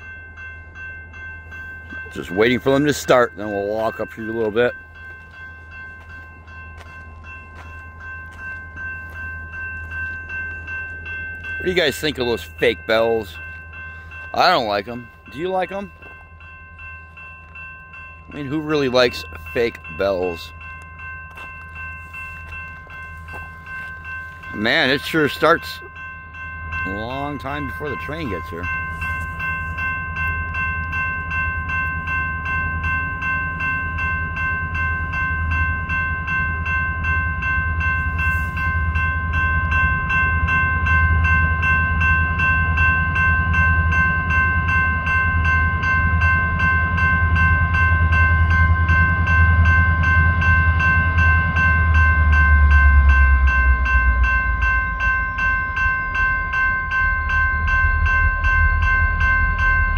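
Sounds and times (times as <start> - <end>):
diesel locomotive rumble: 0.0 - 59.9
railroad crossing bell ringing: 0.0 - 59.9.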